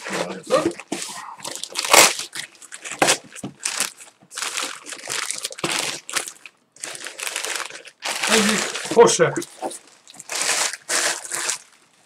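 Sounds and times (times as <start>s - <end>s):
plastic bag crinkling: 0.3s - 12.0s.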